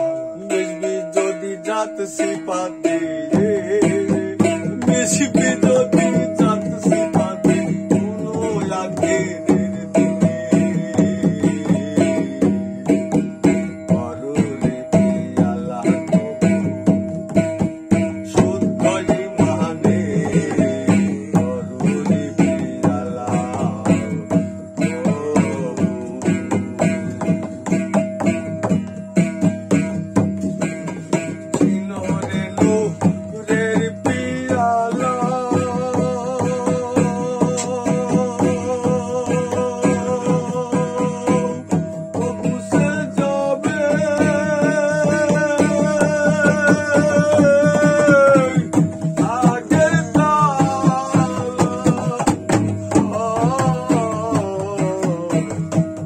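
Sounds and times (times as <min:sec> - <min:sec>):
man singing: 0:00.0 - 0:56.0.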